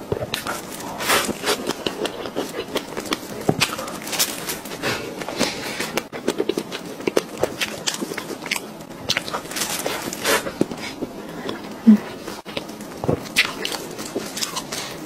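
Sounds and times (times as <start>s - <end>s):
person chewing cake: 0.0s - 15.0s.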